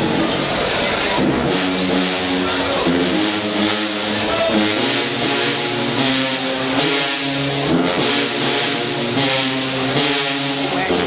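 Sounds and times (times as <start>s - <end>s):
marching band brass: 0.0s - 11.0s.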